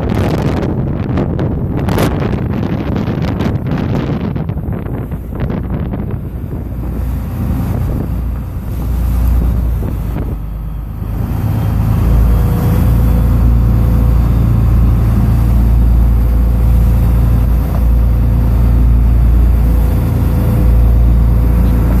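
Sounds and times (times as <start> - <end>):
boat engine droning: 0.0 - 22.0
wind buffeting microphone: 0.0 - 22.0.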